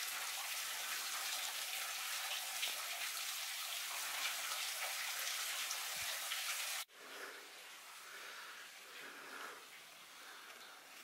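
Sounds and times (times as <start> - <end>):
meltwater dripping from icicles: 0.0 - 6.9, 8.7 - 11.0
trickling water hiss: 0.0 - 11.0.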